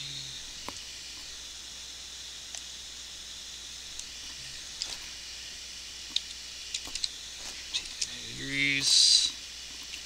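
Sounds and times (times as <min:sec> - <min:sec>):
low hum: 0:00.0 - 0:10.0
microphone hiss: 0:00.0 - 0:10.0.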